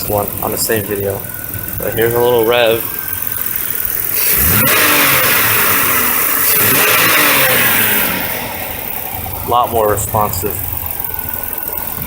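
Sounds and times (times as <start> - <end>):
car engine revving from idle: 0.0 - 12.0.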